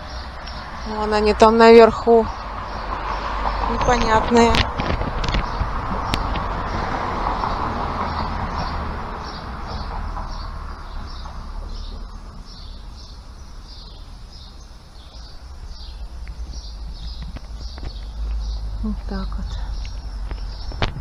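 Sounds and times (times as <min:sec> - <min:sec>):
low street rumble: 0:00.0 - 0:21.0
small birds chirping: 0:00.0 - 0:21.0.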